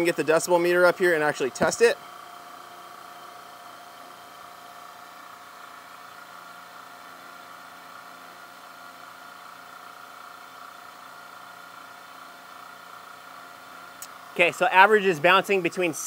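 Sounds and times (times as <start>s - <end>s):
pressure washer running: 0.0s - 16.0s.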